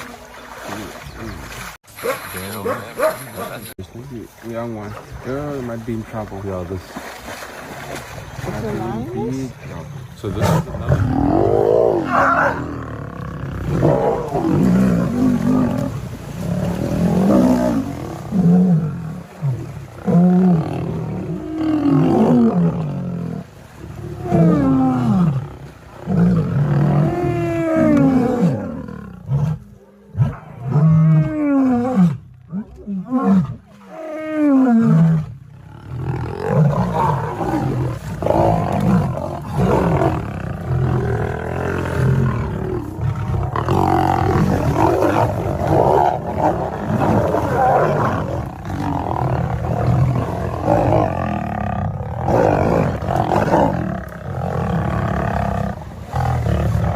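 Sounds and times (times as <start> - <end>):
lions roaring and snarling: 8.4 - 56.9.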